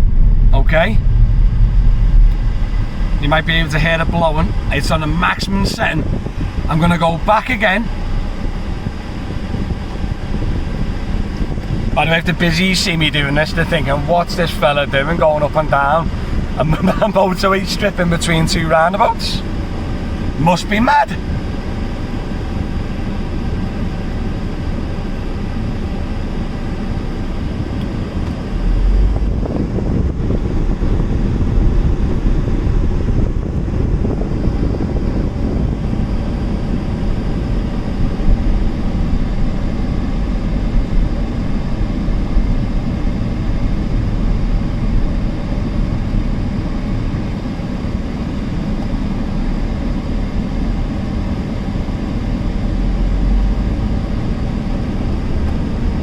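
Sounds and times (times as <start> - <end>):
deep low rumble: 0.0 - 20.4, 21.1 - 56.0
air-conditioning fan blowing: 0.0 - 56.0
car engine: 0.0 - 56.0
wind noise: 0.0 - 56.0.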